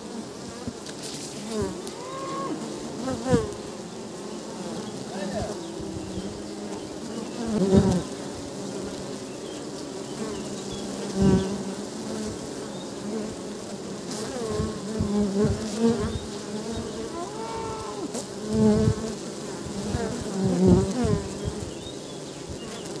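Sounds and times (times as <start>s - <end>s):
bee flying past: 0.0s - 23.0s
bees buzzing: 0.0s - 23.0s.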